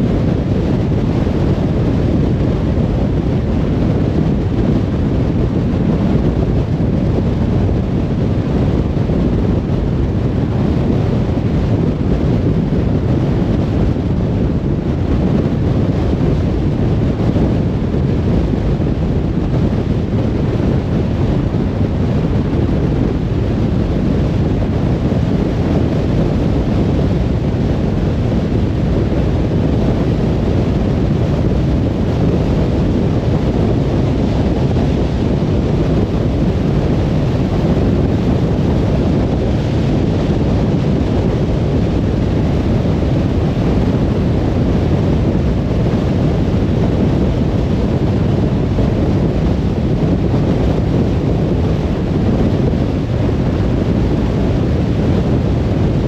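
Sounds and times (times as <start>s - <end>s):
car cruising on a motorway: 0.0s - 56.0s.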